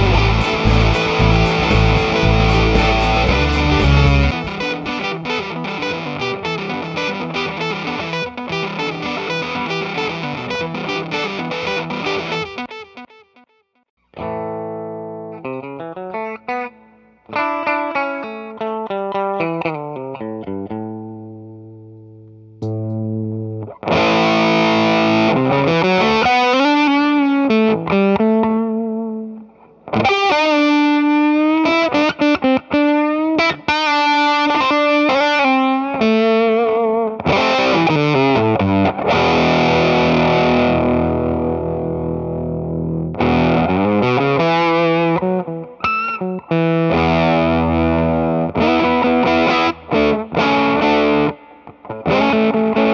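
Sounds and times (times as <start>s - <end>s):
fuzzed electric guitar: 0.0s - 52.9s.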